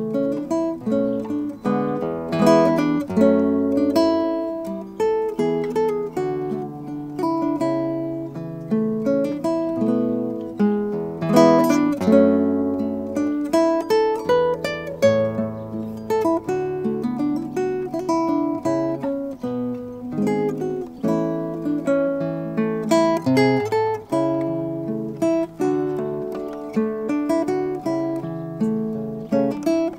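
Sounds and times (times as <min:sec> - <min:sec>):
classical guitar fingerstyle: 0:00.0 - 0:29.9.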